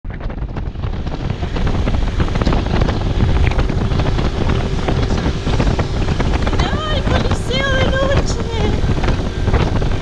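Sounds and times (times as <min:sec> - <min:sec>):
motorbike ride noise: 0:00.0 - 0:10.0
wind buffeting microphone: 0:00.0 - 0:10.0.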